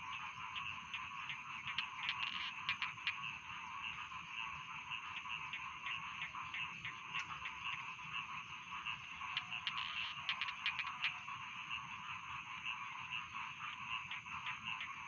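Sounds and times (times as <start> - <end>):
frog clicking calls: 0.0 - 15.0
frogs croaking chorus: 0.0 - 15.0.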